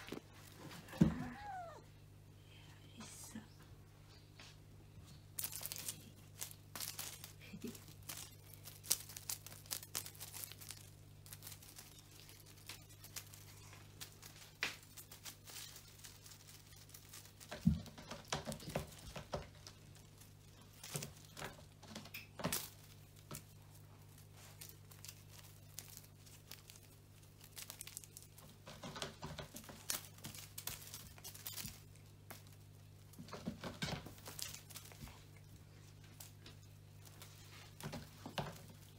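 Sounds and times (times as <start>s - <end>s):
ribbons and feathers crinkling: 0.0s - 1.8s, 5.0s - 38.9s.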